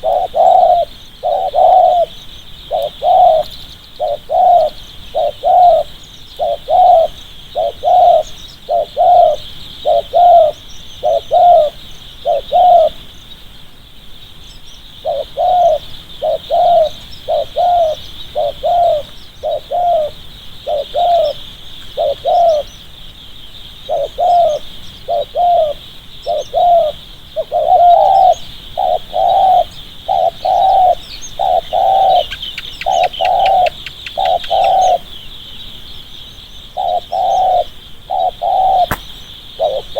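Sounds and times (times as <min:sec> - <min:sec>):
dove cooing: 0:00.0 - 0:13.0, 0:15.0 - 0:22.7, 0:23.9 - 0:35.2, 0:36.8 - 0:39.9
steady high-pitched hiss: 0:00.0 - 0:39.9.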